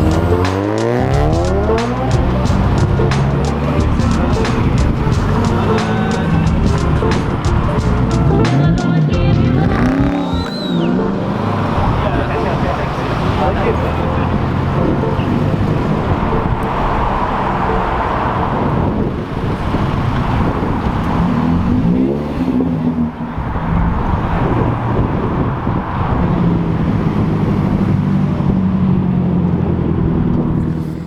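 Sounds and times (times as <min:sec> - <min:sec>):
car engine running: 0:00.0 - 0:31.0
road noise: 0:00.0 - 0:31.0.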